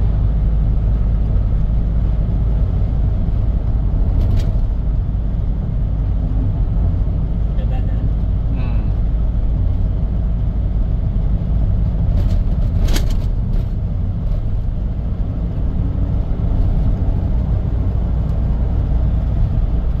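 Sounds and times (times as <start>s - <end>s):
road and engine rumble in car: 0.0s - 20.0s.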